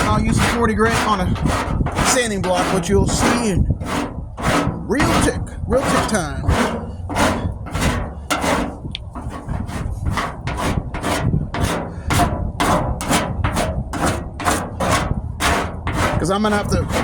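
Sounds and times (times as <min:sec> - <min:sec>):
rasp scraping body filler: 0:00.0 - 0:17.0.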